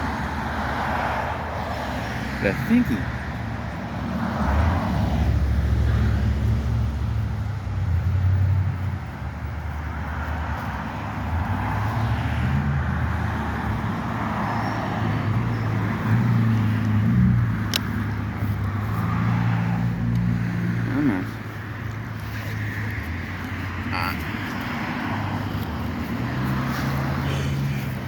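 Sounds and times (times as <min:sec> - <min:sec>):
cars passing: 0:00.0 - 0:28.0
low traffic rumble: 0:00.0 - 0:28.0.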